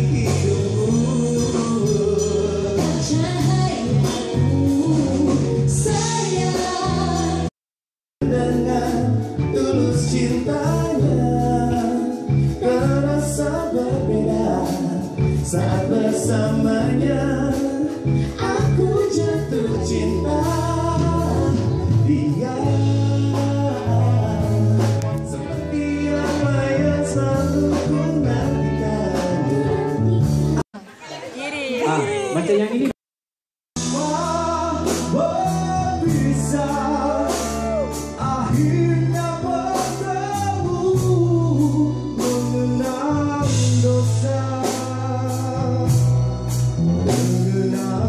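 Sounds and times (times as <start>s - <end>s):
backing band: 0.0s - 7.5s, 8.2s - 30.7s, 33.8s - 48.0s
man and woman singing duet: 0.0s - 7.5s, 8.2s - 30.1s, 33.8s - 46.1s.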